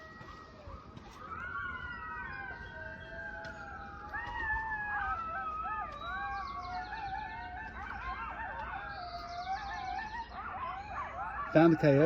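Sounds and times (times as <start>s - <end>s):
coyotes howling and yipping: 0.0s - 12.0s
emergency siren: 0.0s - 12.0s.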